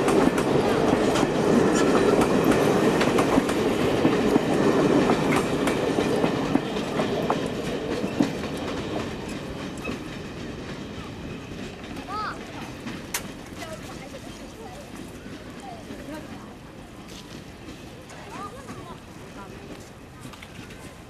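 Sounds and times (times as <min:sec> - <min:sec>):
train rumble: 0:00.0 - 0:21.0
train wheels clicking over rail joints: 0:00.0 - 0:21.0.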